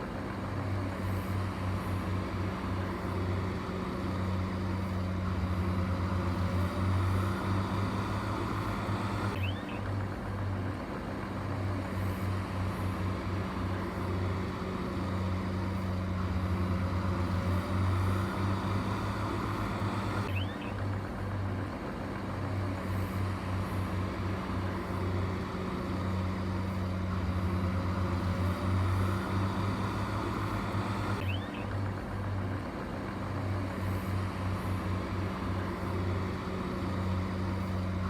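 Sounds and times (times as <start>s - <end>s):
heavy machine engine droning: 0.0s - 38.0s.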